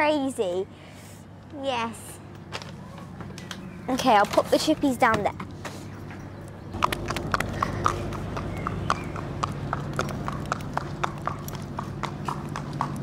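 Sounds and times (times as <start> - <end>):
low steady hum: 0.0 - 13.0
pony hooves on concrete: 2.3 - 13.0.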